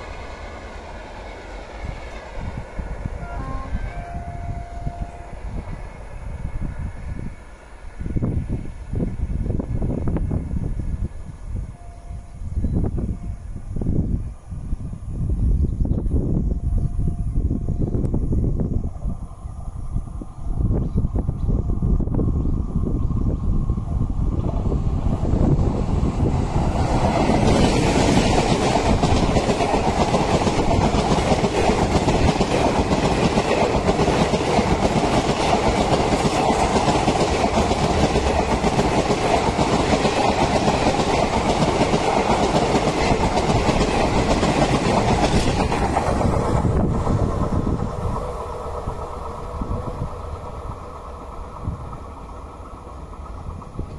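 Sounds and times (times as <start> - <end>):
passenger train passing at speed: 0.0 - 53.9.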